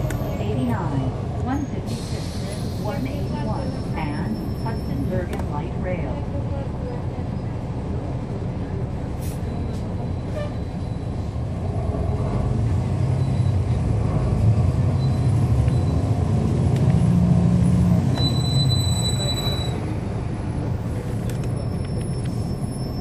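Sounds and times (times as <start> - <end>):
bus diesel engine drone: 0.0 - 23.0.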